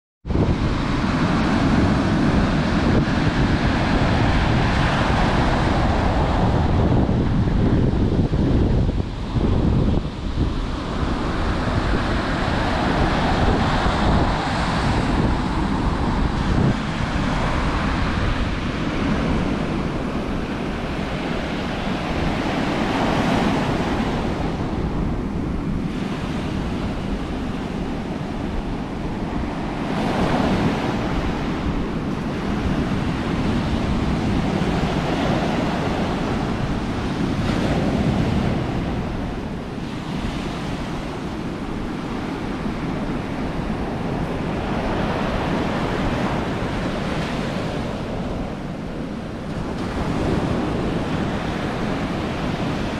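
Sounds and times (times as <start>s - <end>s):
wind rumble on microphone: 0.2s - 52.9s
surf breaking on beach: 0.3s - 52.9s.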